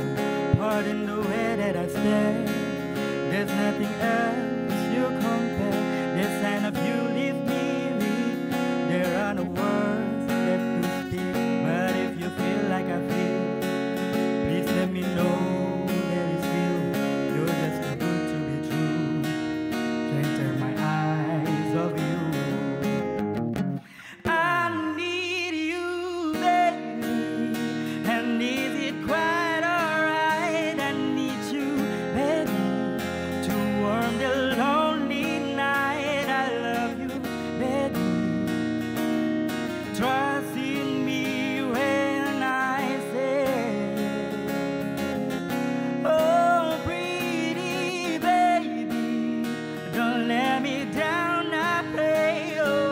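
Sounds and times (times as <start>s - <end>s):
acoustic guitar strumming: 0.0s - 52.9s
man singing: 0.0s - 52.9s.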